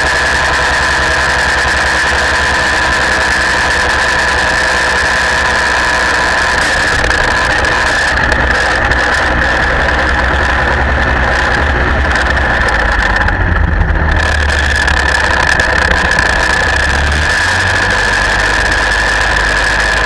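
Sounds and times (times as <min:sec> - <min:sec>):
aircraft engine and propeller: 0:00.0 - 0:20.0.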